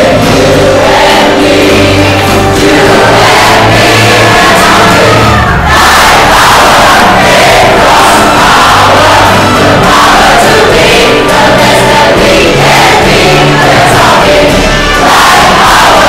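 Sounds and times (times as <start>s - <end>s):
crowd singing loudly: 0.0s - 16.0s
music: 0.0s - 16.0s.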